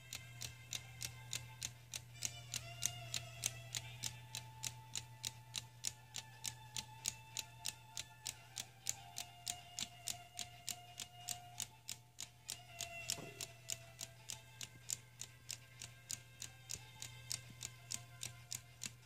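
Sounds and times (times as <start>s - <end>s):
clock ticking: 0.0s - 19.0s
soft background music: 0.0s - 19.0s.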